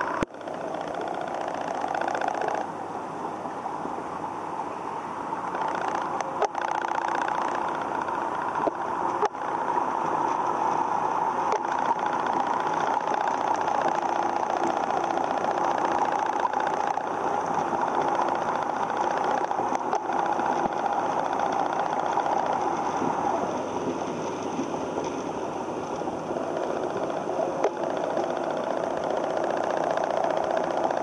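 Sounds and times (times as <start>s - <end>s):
faint clicks: 0.0s - 2.7s, 5.5s - 31.0s
steady mechanical hum: 0.0s - 31.0s.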